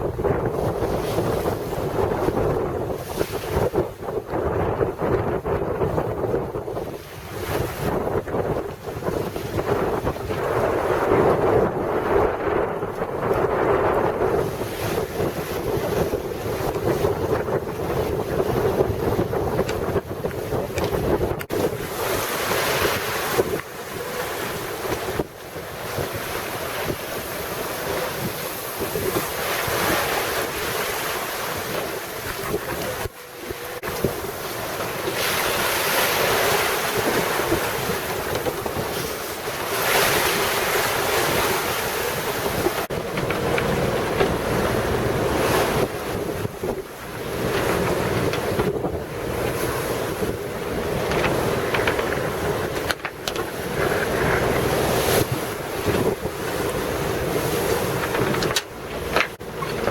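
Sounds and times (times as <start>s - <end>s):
waves rushing along boat: 0.0s - 59.9s
wind buffeting microphone: 0.0s - 59.9s.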